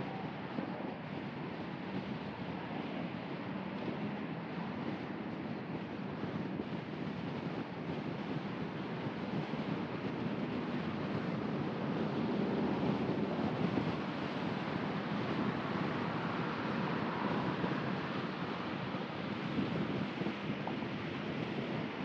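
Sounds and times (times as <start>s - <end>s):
wind rush: 0.0s - 22.0s
tyre roar on pavement: 0.2s - 22.0s.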